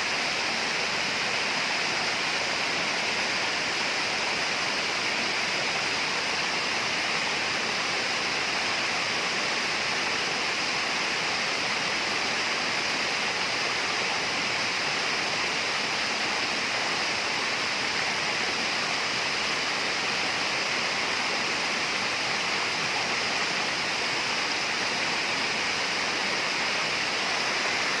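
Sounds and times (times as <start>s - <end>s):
rainforest rushing hiss: 0.0s - 28.0s.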